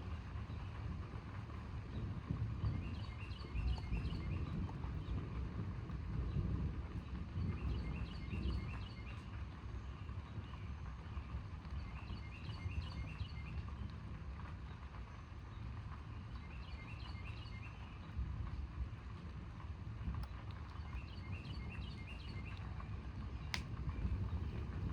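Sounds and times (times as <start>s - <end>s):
low rumbling background noise: 0.0s - 24.9s.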